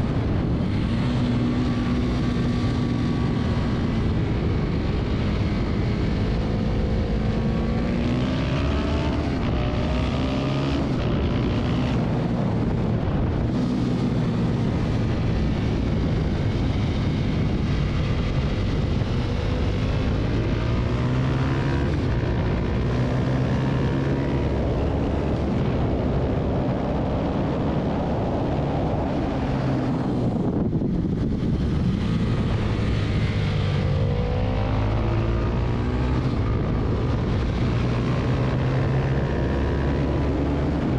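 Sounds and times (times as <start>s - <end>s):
motorcycle engine revving: 0.0s - 40.9s
wind rushing over microphone: 0.0s - 40.9s.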